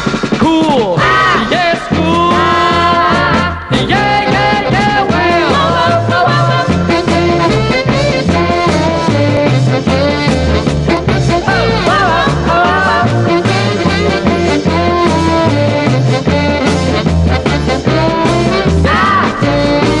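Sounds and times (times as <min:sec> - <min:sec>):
rock and roll song with horns: 0:00.0 - 0:20.0
stepping bass line: 0:00.0 - 0:20.0.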